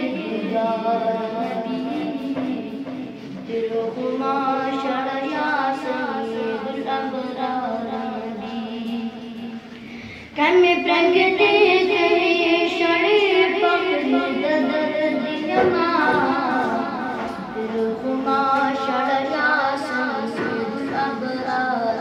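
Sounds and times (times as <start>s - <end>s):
boy singing unaccompanied: 0.0s - 9.7s, 10.4s - 22.0s.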